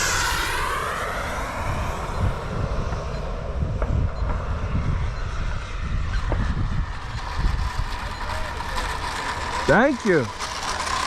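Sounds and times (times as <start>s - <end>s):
model airplane engine running: 0.0s - 3.4s, 4.0s - 11.0s
gusty low rumble: 0.0s - 11.0s.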